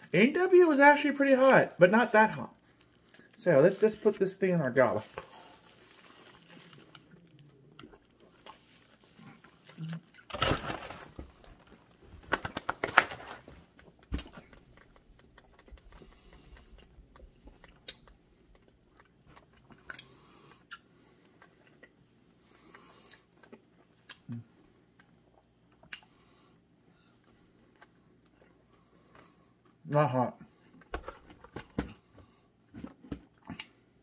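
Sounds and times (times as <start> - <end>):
person chewing food: 2.3 - 3.4, 4.8 - 13.0, 13.6 - 34.0.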